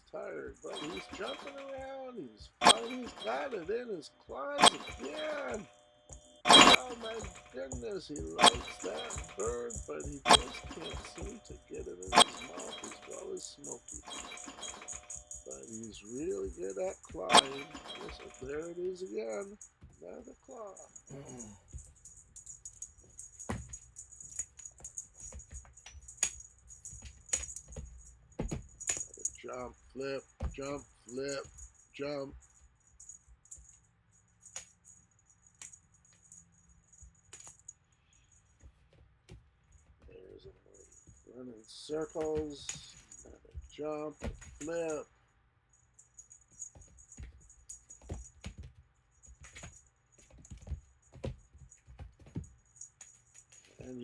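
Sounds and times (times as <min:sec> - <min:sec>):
small bell jingling: 0:00.0 - 0:39.0, 0:39.6 - 0:54.0.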